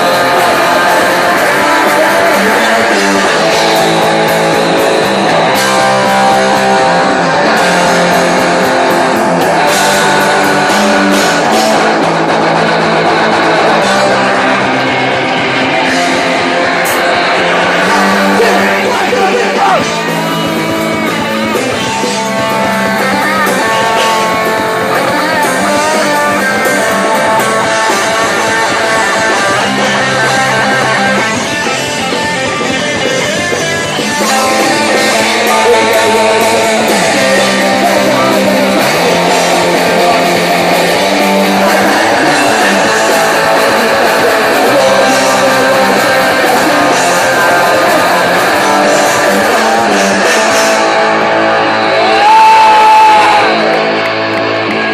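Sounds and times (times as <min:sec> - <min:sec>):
electric guitar: 0:00.0 - 0:54.9
punk band playing live: 0:00.0 - 0:54.9.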